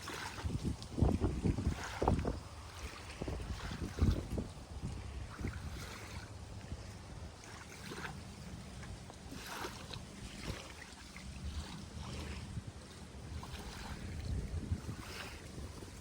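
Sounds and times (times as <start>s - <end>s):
wind on microphone: 0.0s - 8.1s, 9.3s - 16.0s
small waves lapping on beach: 0.0s - 16.0s.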